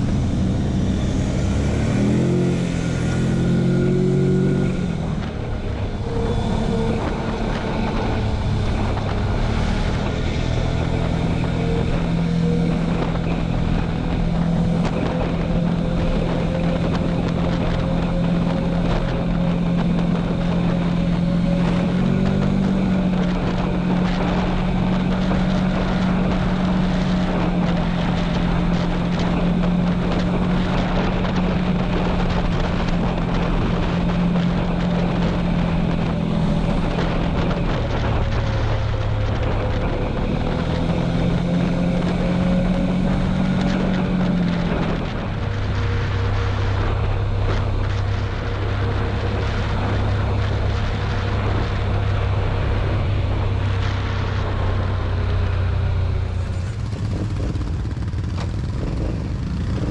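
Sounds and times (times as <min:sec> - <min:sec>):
quad bike engine: 0:00.0 - 0:59.9
wind on microphone: 0:00.0 - 0:59.9.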